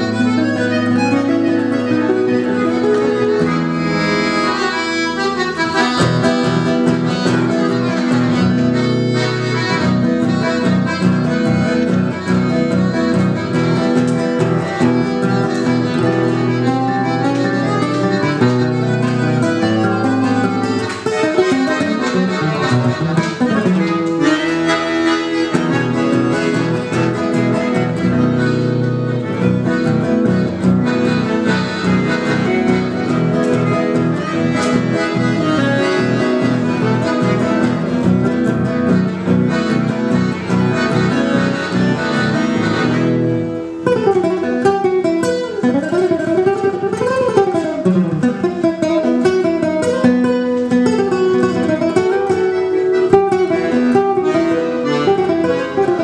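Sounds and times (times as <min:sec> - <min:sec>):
accordion: 0:00.0 - 0:56.0
acoustic guitar: 0:00.0 - 0:56.0.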